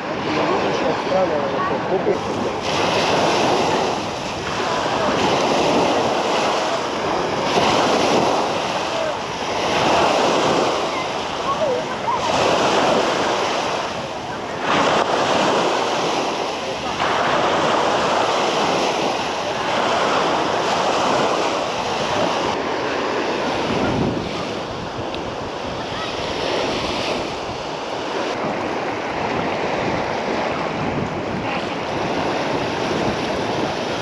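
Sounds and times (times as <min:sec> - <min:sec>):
sea waves washing onto shore: 0:00.0 - 0:34.0
wind buffeting microphone: 0:00.0 - 0:34.0.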